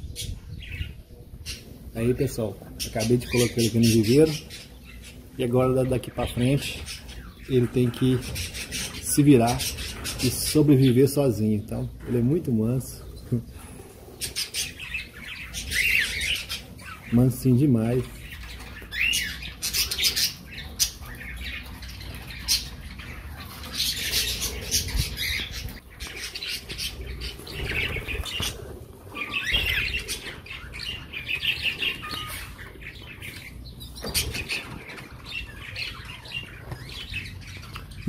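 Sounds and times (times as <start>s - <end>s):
birds chirping and calling: 0.0s - 38.0s.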